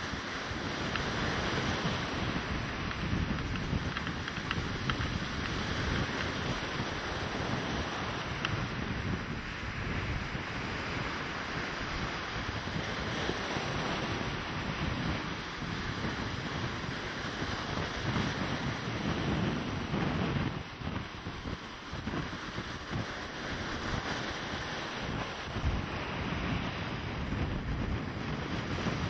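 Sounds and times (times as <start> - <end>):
surf breaking on beach: 0.0 - 29.0
wind on microphone: 0.0 - 29.0.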